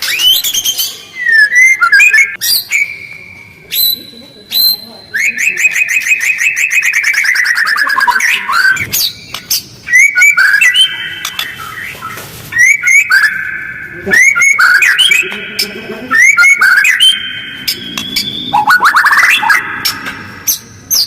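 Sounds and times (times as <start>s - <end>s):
bird singing harsh whistled song: 0.0s - 21.0s.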